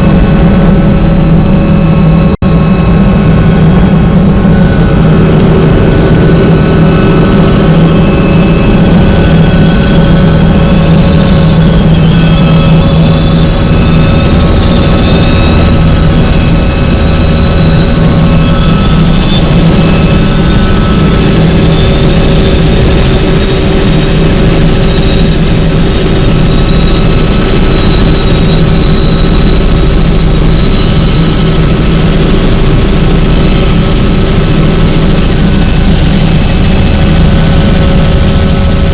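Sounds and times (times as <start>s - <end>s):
helicopter turbine and rotor noise: 0.0s - 38.9s.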